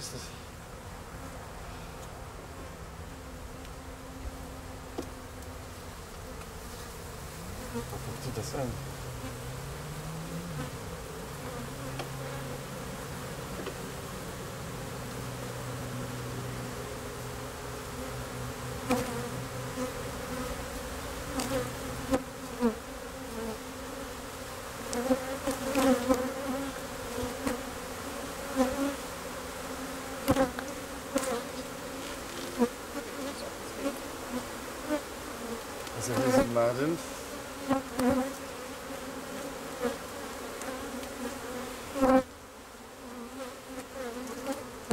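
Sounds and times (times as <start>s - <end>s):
bees buzzing: 0.0s - 44.9s
single bees whining past: 1.2s - 44.9s.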